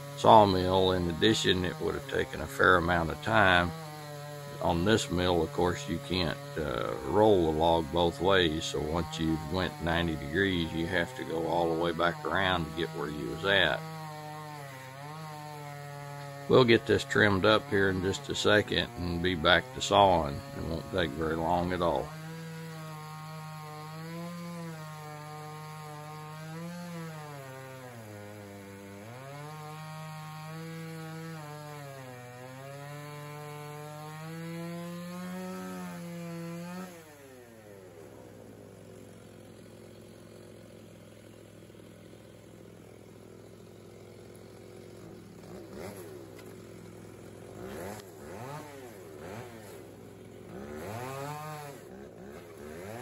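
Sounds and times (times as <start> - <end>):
chainsaw cutting log: 0.0 - 53.0
chainsaw idling and revving: 0.0 - 53.0.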